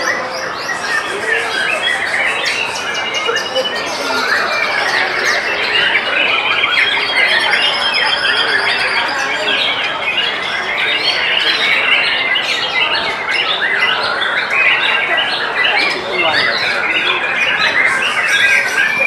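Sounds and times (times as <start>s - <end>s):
chorus of songbirds: 0.0s - 19.0s.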